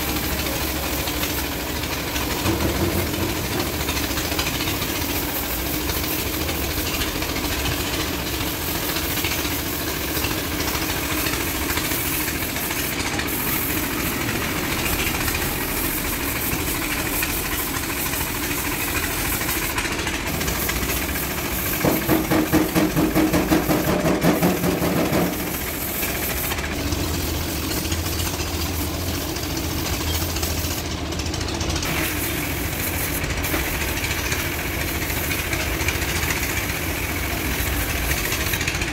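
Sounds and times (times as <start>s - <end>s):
paint spray gun hissing: 0.0s - 38.9s.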